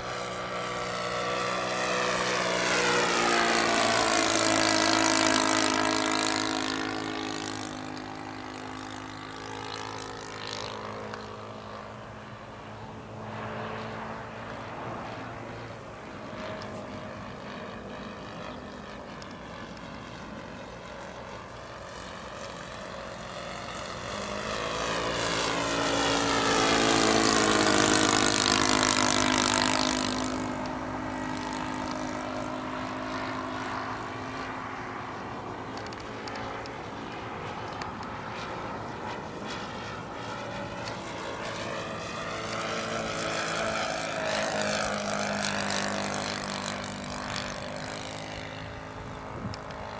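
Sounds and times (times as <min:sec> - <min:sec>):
propeller airplane flying past: 0:00.0 - 0:49.9.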